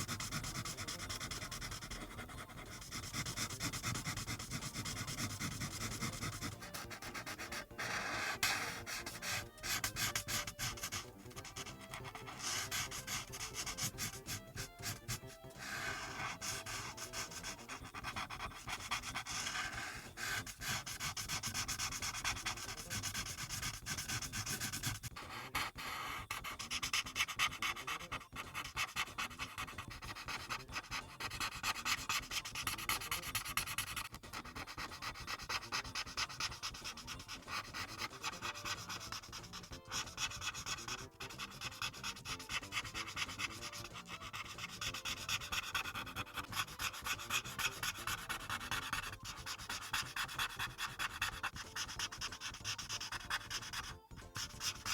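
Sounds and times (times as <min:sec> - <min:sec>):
marker nib rubbing on paper: 0:00.0 - 0:54.9.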